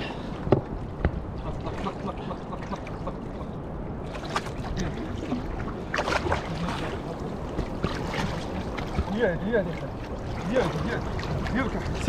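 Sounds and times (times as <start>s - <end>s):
water lapping against floats: 0.0s - 12.0s
water splashes: 0.1s - 12.0s.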